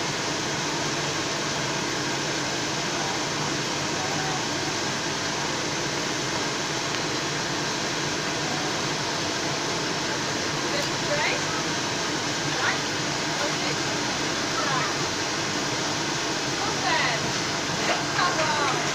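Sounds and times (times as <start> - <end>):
machinery whirring: 2.9 - 18.9.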